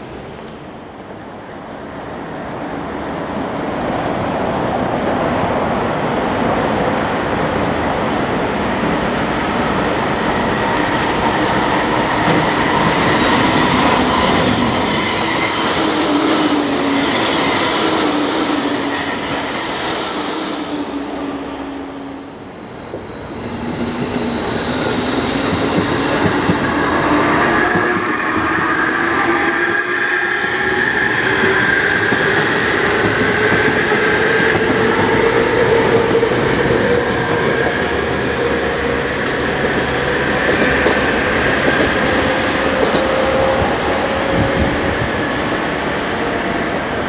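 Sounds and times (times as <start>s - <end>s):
electric train passing: 0.0s - 47.0s.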